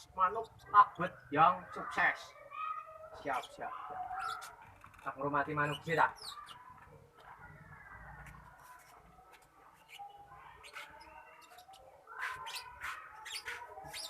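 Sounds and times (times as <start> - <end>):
lovebirds chirping: 2.6 - 14.0.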